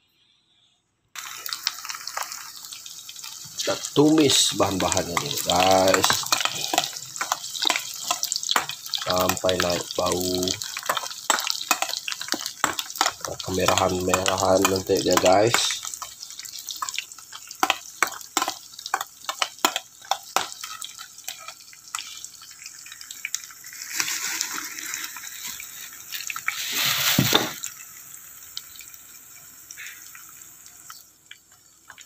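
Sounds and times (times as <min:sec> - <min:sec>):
food sizzling in oil: 0:01.2 - 0:32.0.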